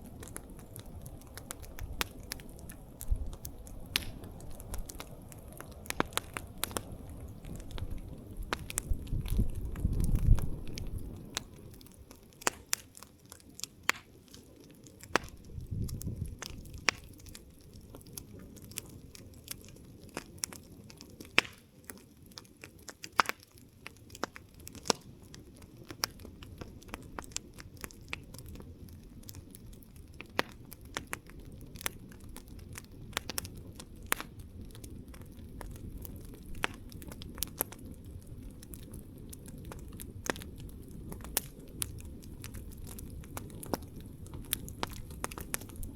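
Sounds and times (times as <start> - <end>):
campfire pops and snaps: 0.0 - 45.9
fire burning rush: 0.0 - 45.9.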